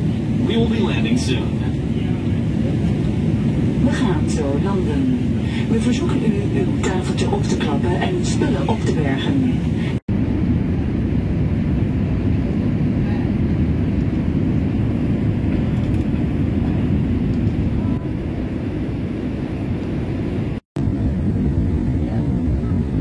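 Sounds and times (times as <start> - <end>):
airliner engines and airflow rumble: 0.0 - 23.0.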